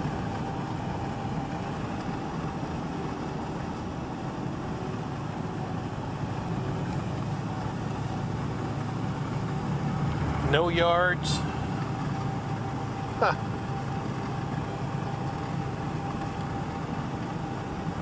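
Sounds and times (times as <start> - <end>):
pickup truck engine and tyre noise: 0.0 - 18.0.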